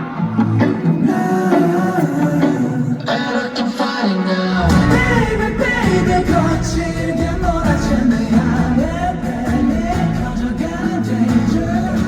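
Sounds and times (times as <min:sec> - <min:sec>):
live pop-rock song with vocals: 0:00.0 - 0:12.0.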